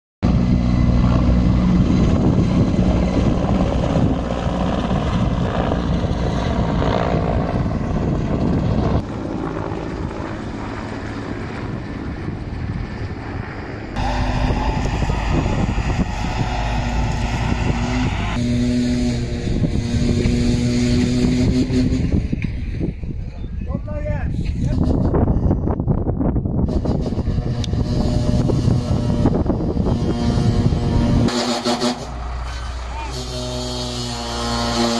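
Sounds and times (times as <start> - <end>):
engine running: 0.2 - 22.8, 26.7 - 34.9.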